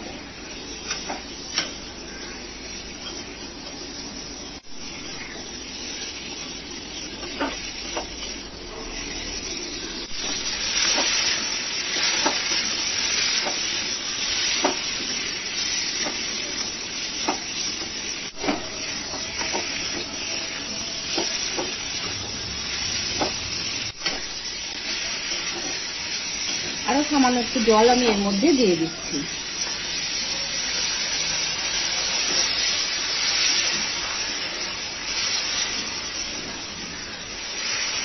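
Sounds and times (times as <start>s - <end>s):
chicken sizzling in oil: 0.0s - 38.0s.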